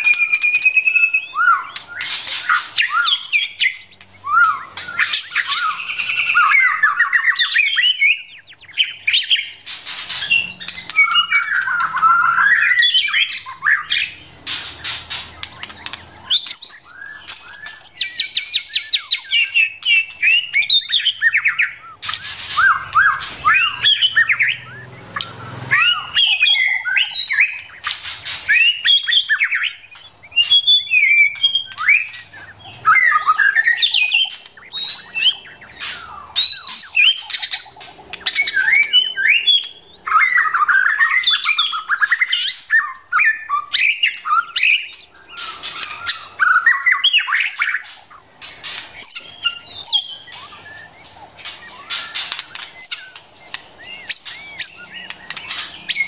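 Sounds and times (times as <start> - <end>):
shama whistled calls and chatters: 0.0 - 56.0.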